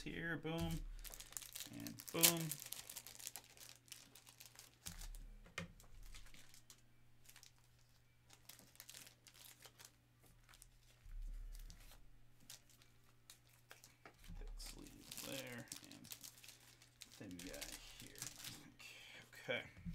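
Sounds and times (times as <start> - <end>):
plastic crinkling and rustling: 0.5 - 18.8.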